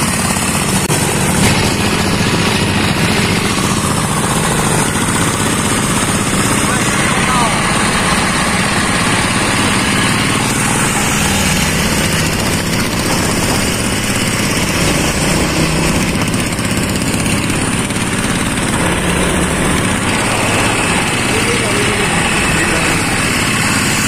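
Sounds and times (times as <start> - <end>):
road noise: 0.0 - 24.0
second motorcycle running: 0.0 - 24.0
small diesel motorcycle engine: 0.0 - 24.0.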